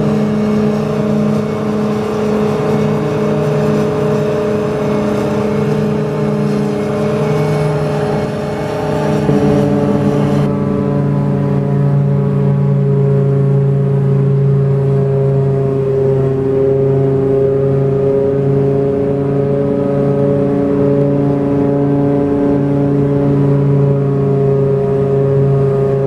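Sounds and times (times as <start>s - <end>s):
harvester mechanical drone: 0.0s - 26.0s.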